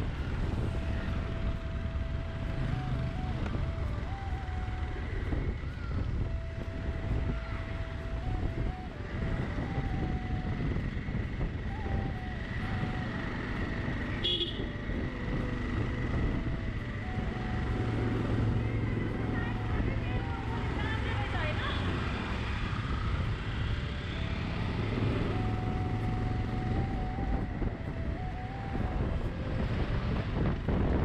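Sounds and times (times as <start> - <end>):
scooter engine and road rumble: 0.0 - 31.0.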